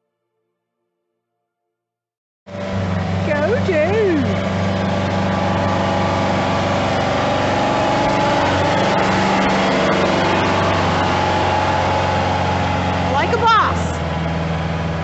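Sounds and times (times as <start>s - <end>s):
tractor diesel engine driving past: 2.5s - 15.0s.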